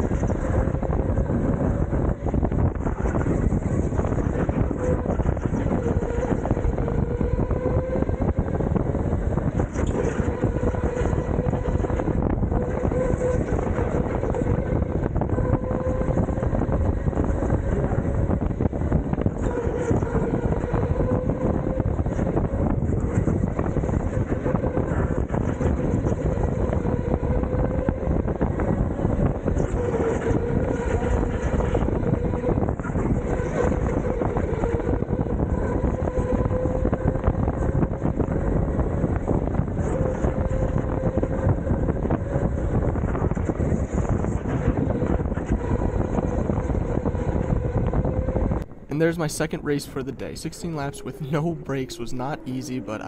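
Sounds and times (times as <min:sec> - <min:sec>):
go-kart motor whine: 0:00.0 - 0:48.9
wind noise on microphone: 0:00.0 - 0:53.0.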